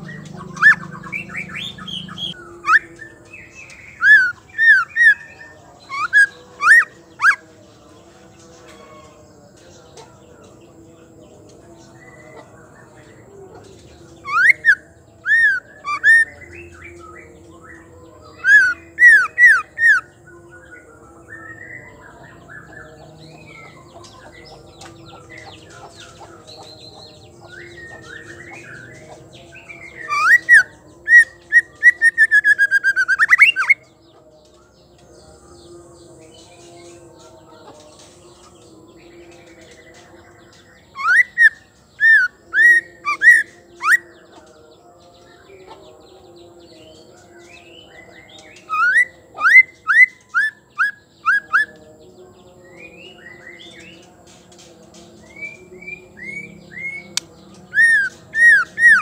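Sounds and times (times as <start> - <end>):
soft bird twittering and chatter: 0.0 - 59.0.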